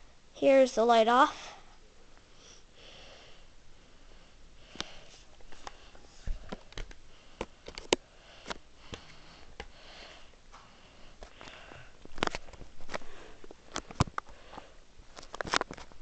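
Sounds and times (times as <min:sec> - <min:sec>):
ceiling fan hiss: 0:00.0 - 0:16.0
soft breaths or sniffs: 0:01.3 - 0:14.8.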